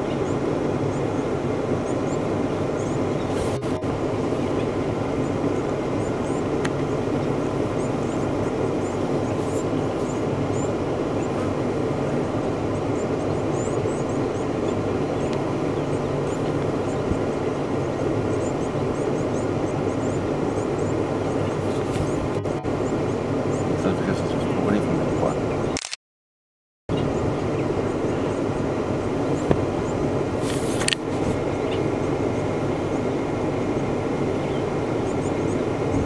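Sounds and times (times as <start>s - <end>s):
vehicle engine idling: 0.0s - 25.7s, 26.9s - 36.0s.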